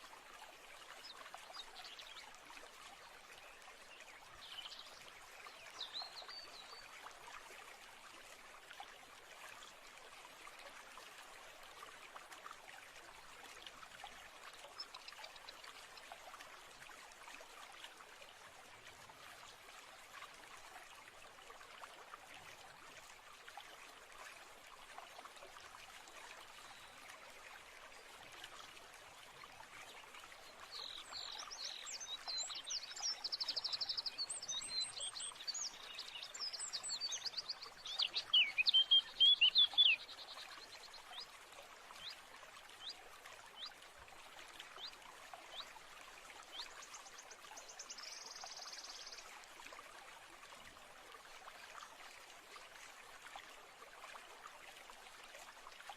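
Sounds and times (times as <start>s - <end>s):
stream trickling: 0.0s - 55.9s.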